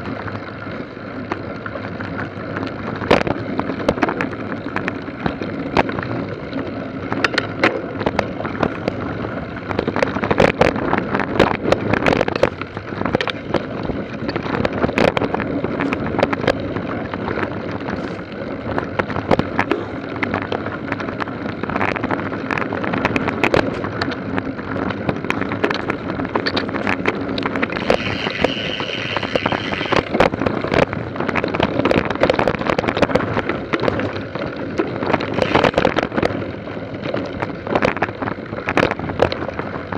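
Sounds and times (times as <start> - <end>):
bike rattling and knocking: 0.0 - 39.9
wind noise on microphone: 0.0 - 39.9.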